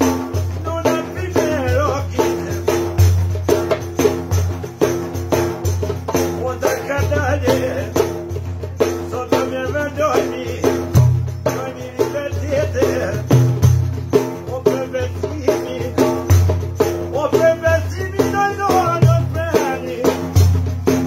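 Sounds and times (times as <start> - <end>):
frame drum with jingles: 0.0 - 21.0.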